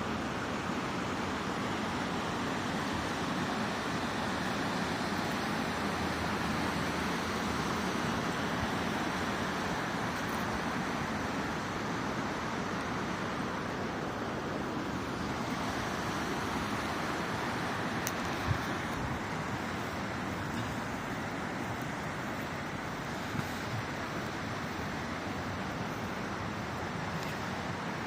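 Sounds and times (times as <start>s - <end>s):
flowing water rushing: 0.0s - 28.0s.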